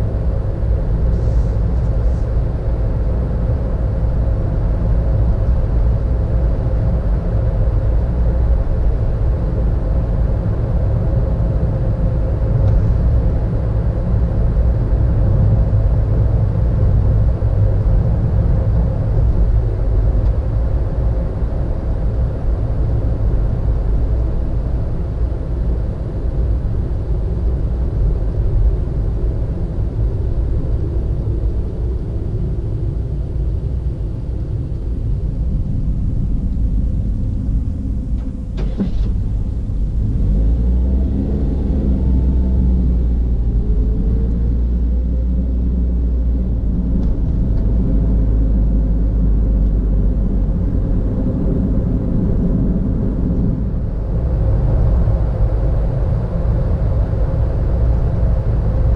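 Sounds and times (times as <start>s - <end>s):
car engine and tyre rumble: 0.0s - 58.9s.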